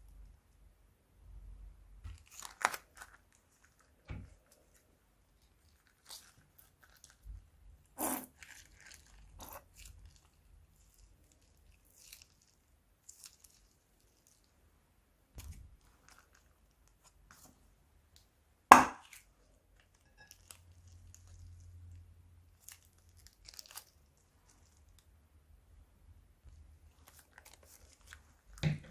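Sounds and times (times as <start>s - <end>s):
slime crinkling and scraping: 2.0s - 14.6s, 15.4s - 17.7s, 19.0s - 25.2s, 26.4s - 28.9s.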